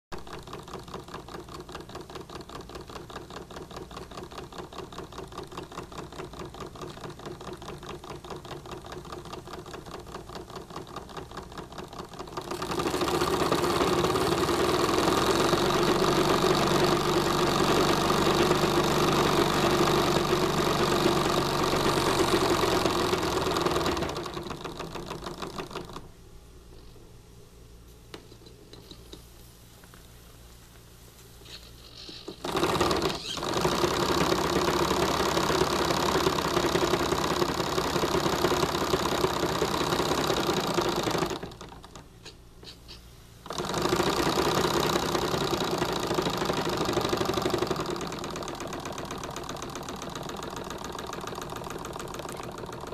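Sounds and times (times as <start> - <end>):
model steam engine running: 0.2 - 26.0, 31.5 - 52.9.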